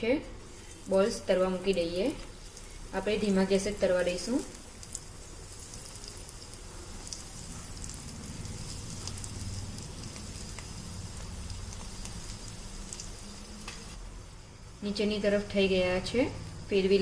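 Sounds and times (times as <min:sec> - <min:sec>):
oil sizzling and bubbling: 0:00.0 - 0:17.0.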